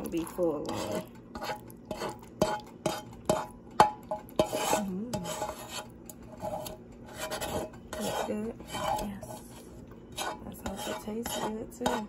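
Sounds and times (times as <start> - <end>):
utensil clanking against pot: 0.0 - 12.0
utensil stirring thick sauce in pot: 0.0 - 12.0.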